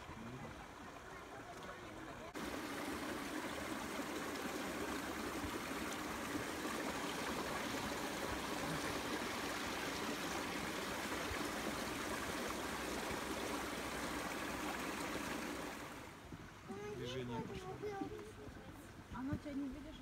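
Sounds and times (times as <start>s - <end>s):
stream of running water: 0.0s - 20.0s.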